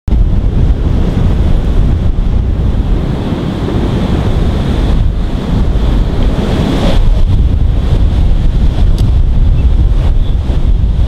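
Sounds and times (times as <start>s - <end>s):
strong wind buffeting microphone: 0.1s - 11.0s.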